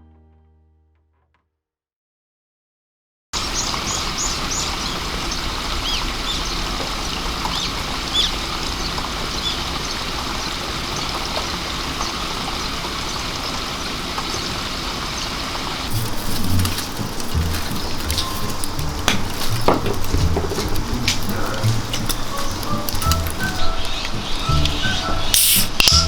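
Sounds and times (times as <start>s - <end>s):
birds chirping: 3.4s - 26.0s
steady rain falling: 3.4s - 26.0s.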